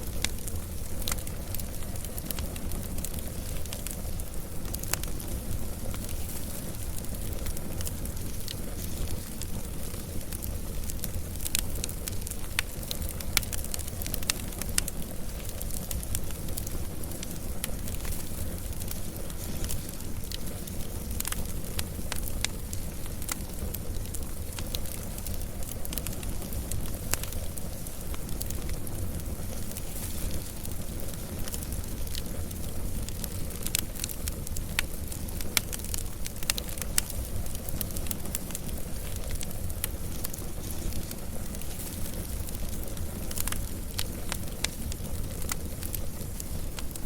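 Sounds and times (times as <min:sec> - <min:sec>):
low fire rumble: 0:00.0 - 0:47.0
wood fire crackling: 0:00.0 - 0:47.0.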